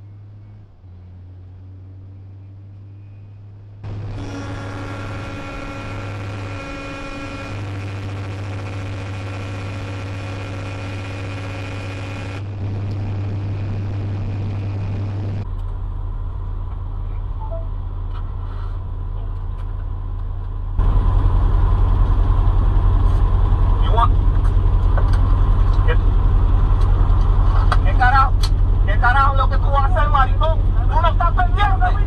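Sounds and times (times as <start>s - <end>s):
vehicle engine and road drone: 0.0s - 32.0s.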